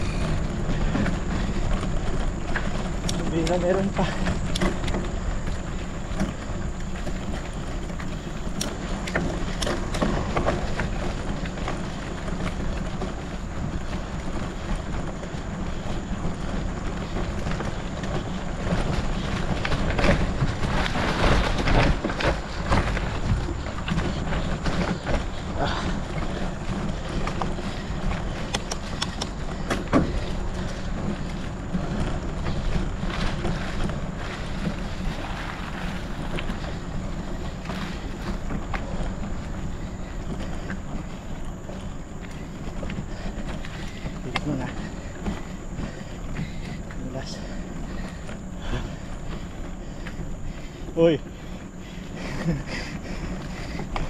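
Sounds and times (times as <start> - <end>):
bike rattling and knocking: 0.0 - 54.0
tyres crunching on gravel: 0.0 - 54.0.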